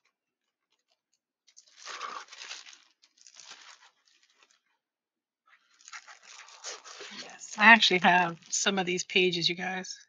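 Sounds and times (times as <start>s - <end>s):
plastic sleeves crinkling: 0.0s - 9.8s.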